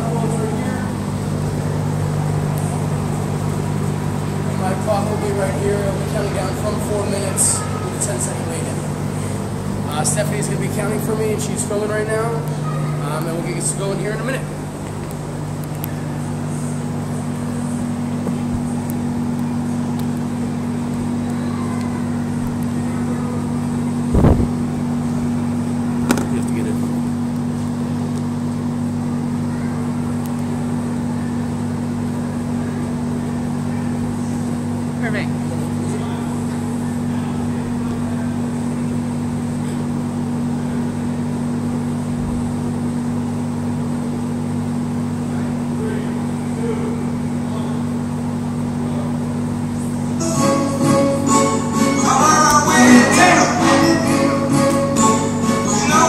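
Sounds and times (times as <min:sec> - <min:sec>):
floor fan electric hum: 0:00.0 - 0:56.0.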